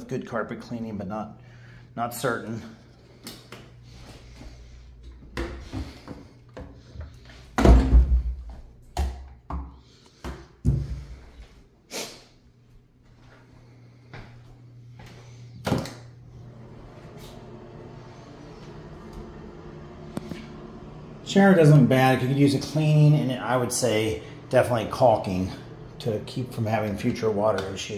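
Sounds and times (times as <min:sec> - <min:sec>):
steady low hum: 0:00.0 - 0:09.0, 0:09.8 - 0:27.9.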